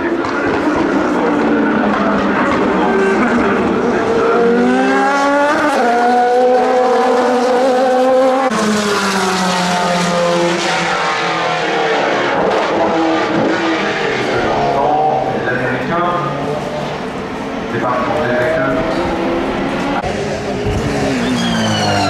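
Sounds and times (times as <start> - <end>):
race car engines at speed: 0.0 - 22.0.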